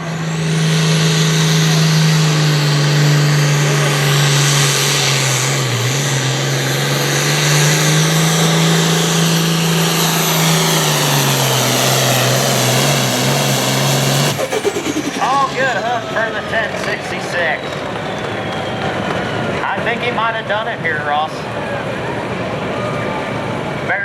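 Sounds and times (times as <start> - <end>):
tractor diesel engine at full throttle: 0.0 - 22.6.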